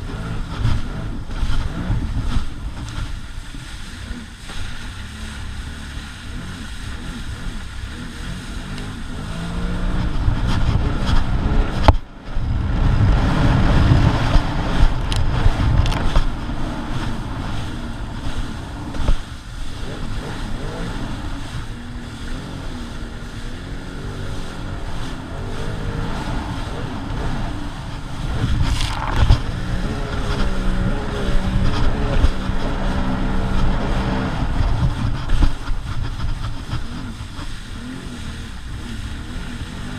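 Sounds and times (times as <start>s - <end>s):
rushing water: 0.0s - 39.9s
watercraft engine revving: 0.0s - 39.9s
wind noise: 0.0s - 39.9s.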